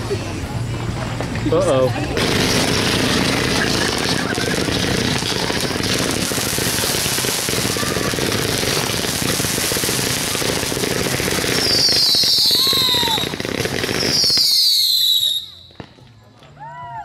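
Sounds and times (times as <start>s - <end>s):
fireworks crackling: 0.0s - 16.3s.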